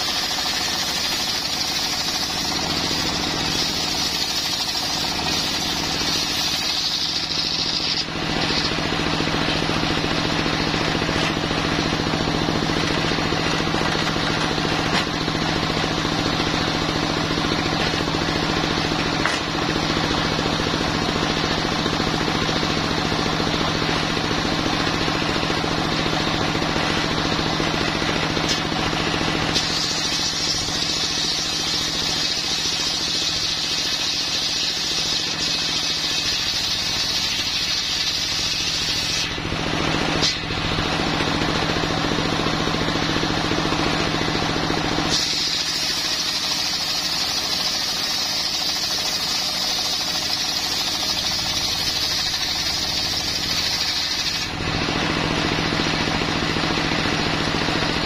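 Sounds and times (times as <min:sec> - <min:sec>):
saw blade whining through wood: 0:00.0 - 0:57.1
diesel engine running under load: 0:00.0 - 0:58.0.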